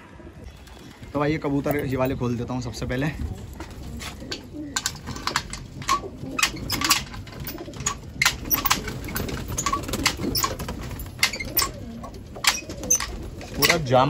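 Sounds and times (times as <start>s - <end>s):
pigeons cooing: 0.1s - 14.0s.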